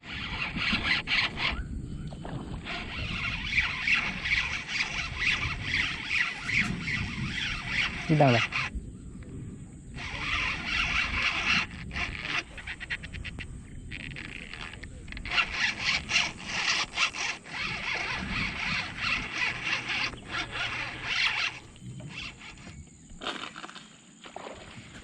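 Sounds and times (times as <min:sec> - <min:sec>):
fishing reel drag buzzing: 0:00.0 - 0:23.9.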